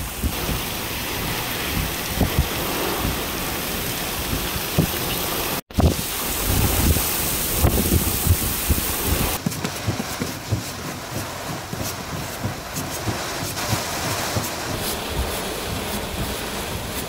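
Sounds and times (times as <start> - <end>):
heavy rain hissing: 0.0 - 17.0
wind rumbling on microphone: 0.0 - 17.0.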